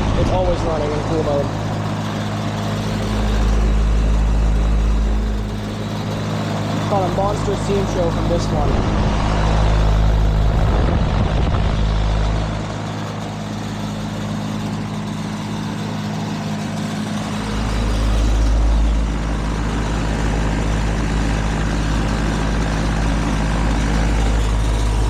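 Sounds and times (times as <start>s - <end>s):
compressor hum: 0.0s - 25.0s
condenser fan whoosh: 0.0s - 25.0s.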